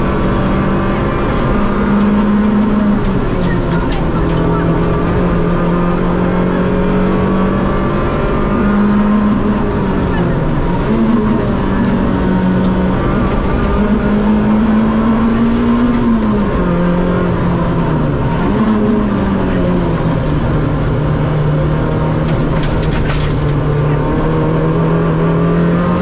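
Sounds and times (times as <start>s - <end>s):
rally car engine from cabin: 0.0s - 26.0s.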